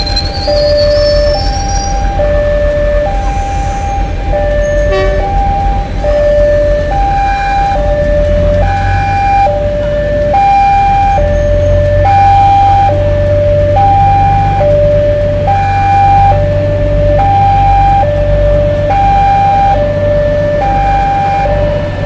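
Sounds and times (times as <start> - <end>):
level crossing alarm two tones: 0.0 - 21.9
passenger train rumbling past: 0.0 - 22.0.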